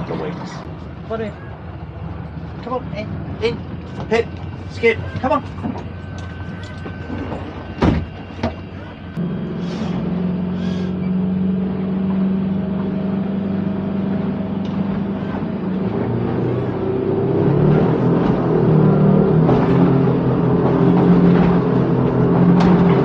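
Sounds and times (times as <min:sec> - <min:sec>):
motor boat engine revving: 0:01.6 - 0:23.0.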